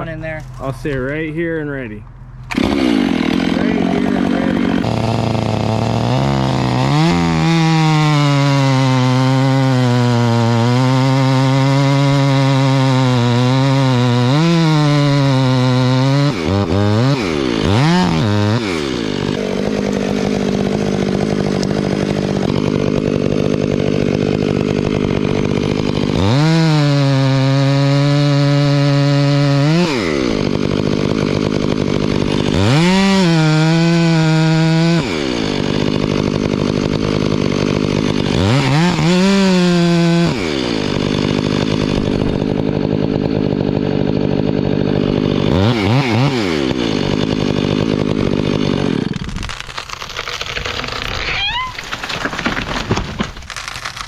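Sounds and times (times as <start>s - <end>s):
chainsaw idling: 0.0s - 54.0s
chainsaw cutting wood: 2.1s - 54.0s.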